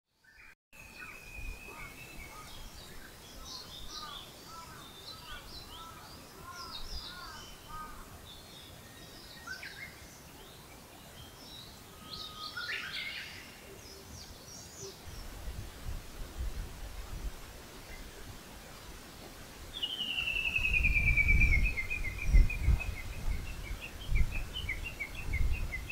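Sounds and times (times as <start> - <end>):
wild birds singing and chirping: 0.2 - 25.9.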